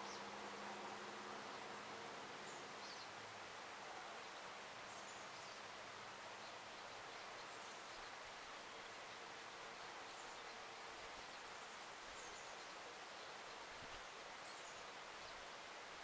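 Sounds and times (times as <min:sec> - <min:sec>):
faint hiss: 0:00.0 - 0:16.0.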